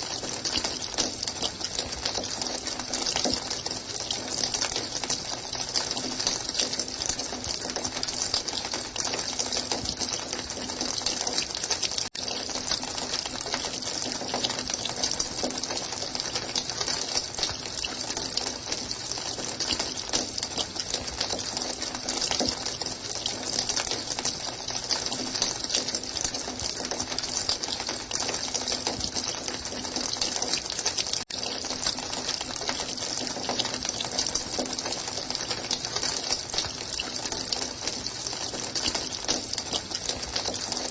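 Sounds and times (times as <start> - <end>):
running water gushing: 0.0 - 40.9.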